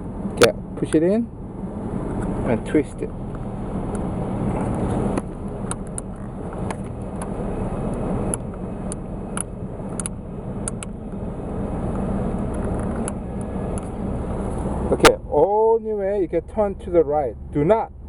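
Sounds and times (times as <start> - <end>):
van engine humming: 0.0 - 18.0.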